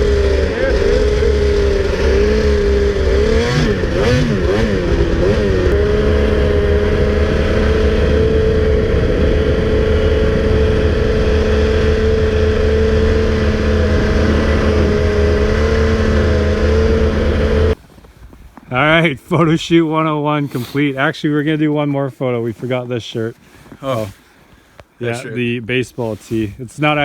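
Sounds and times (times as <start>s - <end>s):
snowmobile engine revving: 0.0s - 17.8s, 18.7s - 24.3s, 25.0s - 27.0s.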